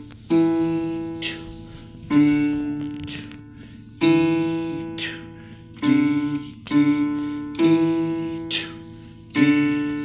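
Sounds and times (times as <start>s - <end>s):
electronic keyboard notes: 0.0s - 10.0s.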